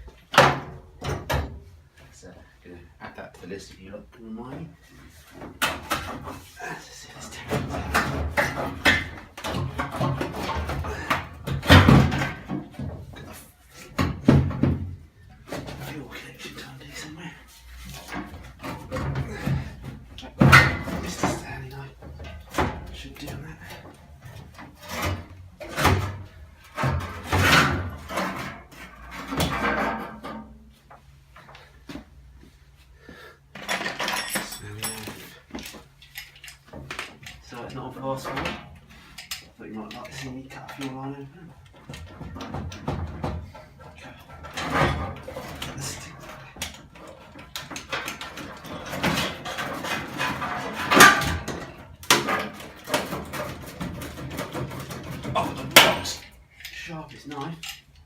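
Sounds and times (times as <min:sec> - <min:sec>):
metal clunks and scrapes: 0:04.8 - 0:31.7, 0:33.6 - 0:56.9.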